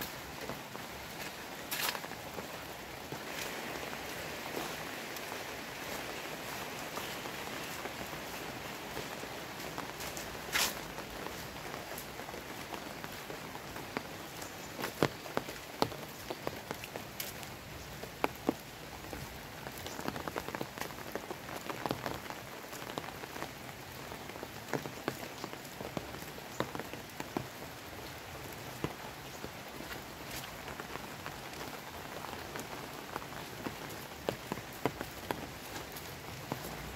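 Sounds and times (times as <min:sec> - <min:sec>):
rain falling: 0:00.0 - 0:36.9.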